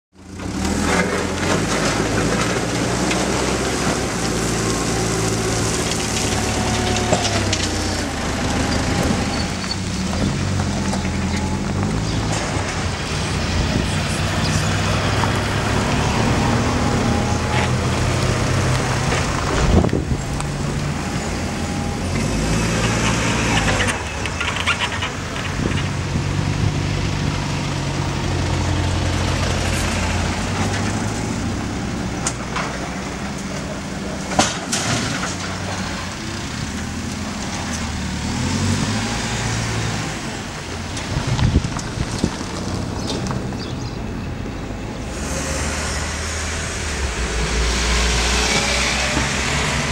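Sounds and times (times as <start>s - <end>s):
heavy diesel machinery running: 0.1s - 49.9s.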